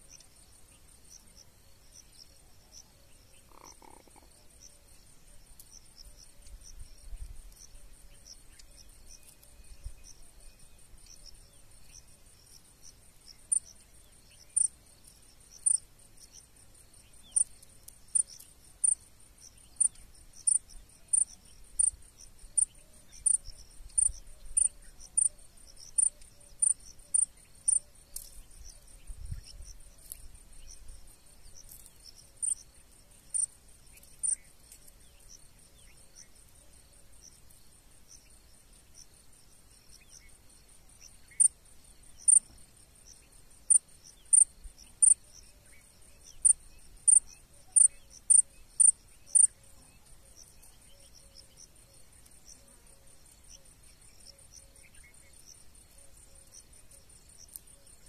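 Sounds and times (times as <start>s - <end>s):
close cricket chirping: 0.0s - 58.0s
crickets trilling: 0.0s - 58.0s.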